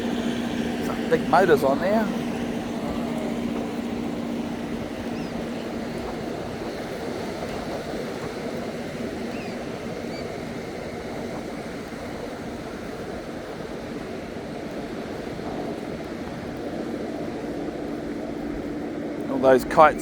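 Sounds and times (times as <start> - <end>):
low engine hum: 0.0 - 20.0
surf rushing: 0.0 - 20.0
wind: 0.0 - 20.0.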